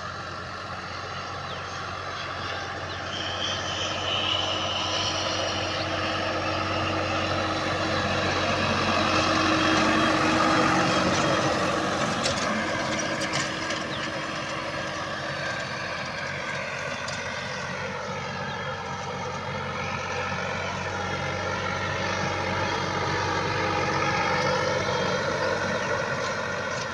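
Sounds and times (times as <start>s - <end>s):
tractor engine under load: 0.0s - 26.9s.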